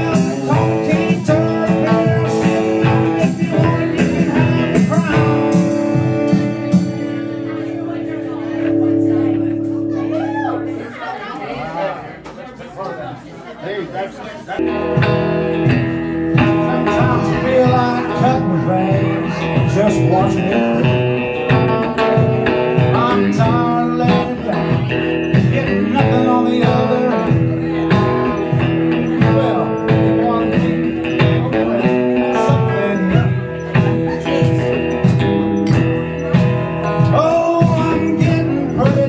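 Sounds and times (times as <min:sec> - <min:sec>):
electric and acoustic guitars playing: 0:00.0 - 0:11.9, 0:14.6 - 0:39.0.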